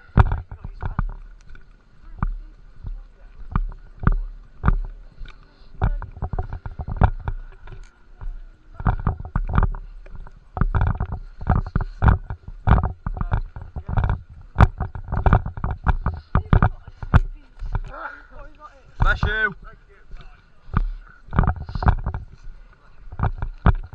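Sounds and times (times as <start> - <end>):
camera handling knocks and rustles: 0.0 - 23.9.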